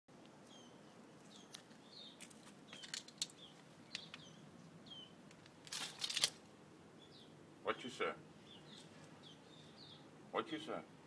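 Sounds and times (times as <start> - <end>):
songbird chirps: 0.1 - 11.0.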